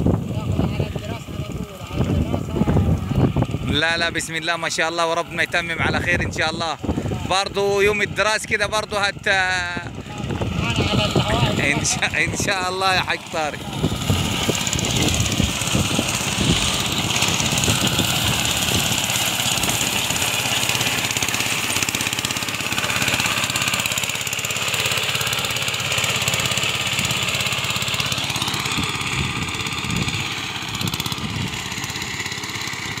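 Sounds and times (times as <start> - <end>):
small engine running steadily: 0.0 - 33.0.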